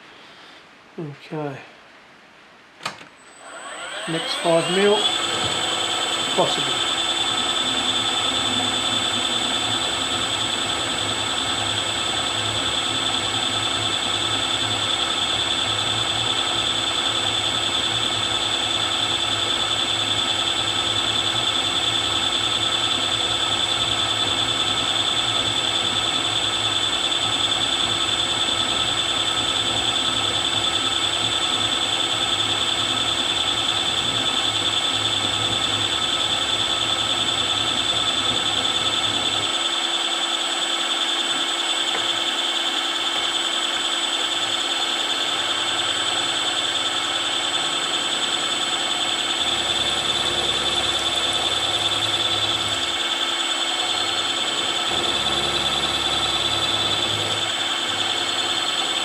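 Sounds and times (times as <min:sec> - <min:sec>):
milling machine cutting whine: 0:03.2 - 0:59.0.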